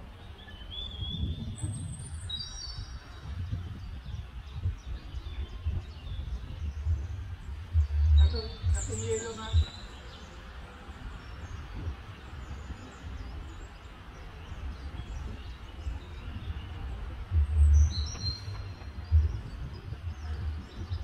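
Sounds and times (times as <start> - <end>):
outdoor background noise: 0.0 - 21.0
small birds chirping: 0.0 - 21.0
low rumbling bumps: 1.0 - 14.0, 14.6 - 21.0.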